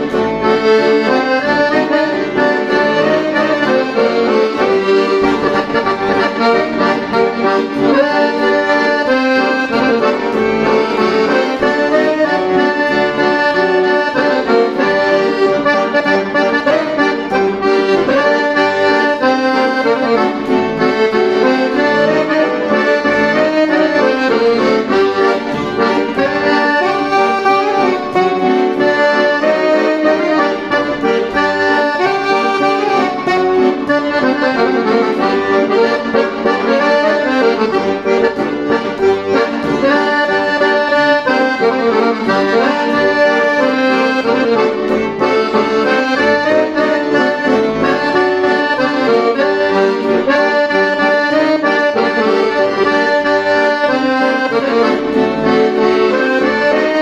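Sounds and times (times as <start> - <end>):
piano accordion playing: 0.0 - 57.0.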